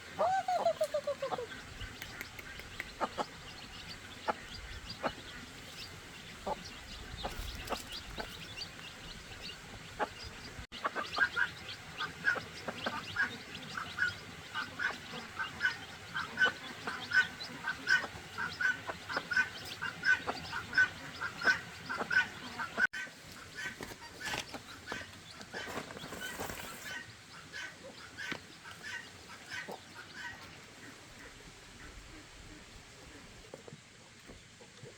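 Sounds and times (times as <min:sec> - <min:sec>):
waterfowl flock calling: 0:00.0 - 0:32.0.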